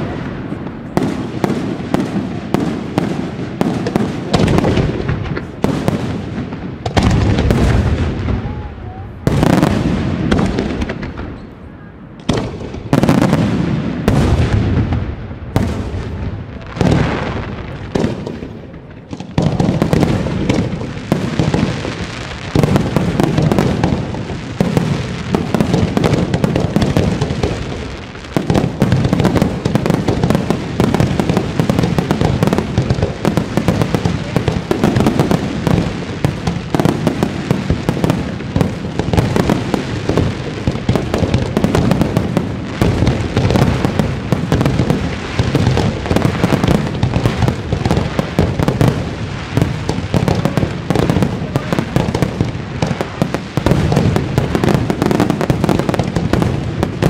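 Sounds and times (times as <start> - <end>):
fireworks bursting and banging: 0.0 - 57.0.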